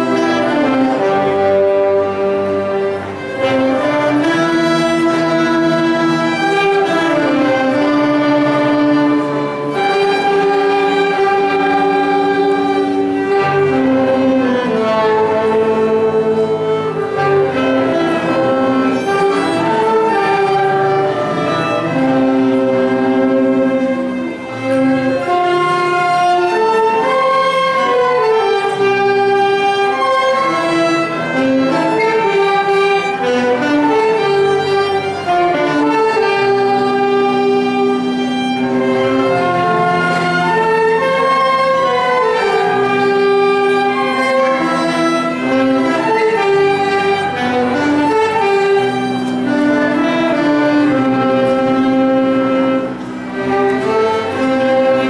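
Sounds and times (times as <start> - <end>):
accordion: 0.0 - 55.0
clarinet: 0.0 - 55.0
flute: 0.0 - 55.0
saxophones: 0.0 - 55.0
violin: 0.0 - 55.0.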